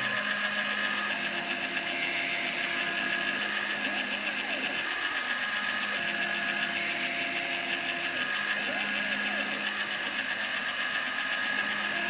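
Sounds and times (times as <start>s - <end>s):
axis drives whining: 0.0s - 12.0s
milling spindle motor running: 0.0s - 12.0s.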